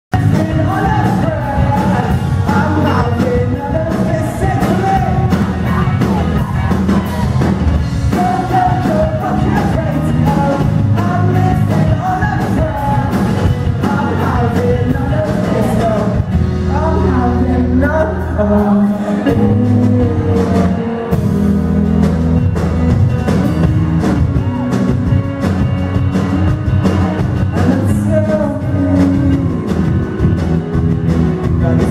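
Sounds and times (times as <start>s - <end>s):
man singing: 0.1s - 22.6s, 27.1s - 30.4s, 31.4s - 31.9s.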